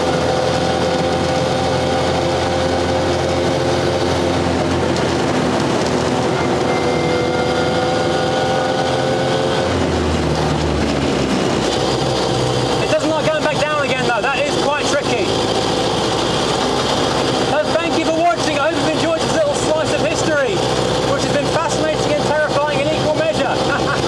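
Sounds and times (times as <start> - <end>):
drivetrain whine: 0.0 - 24.0
truck engine running: 0.0 - 24.0.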